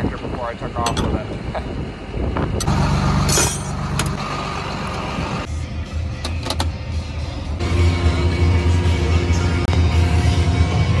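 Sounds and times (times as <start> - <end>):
tractor engine running: 2.1 - 11.0.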